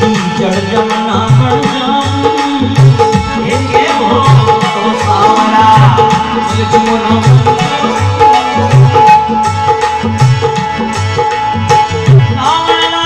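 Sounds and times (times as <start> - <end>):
man singing: 0.0 - 9.8, 12.1 - 13.0
dholak drumming folk rhythm: 0.0 - 13.0.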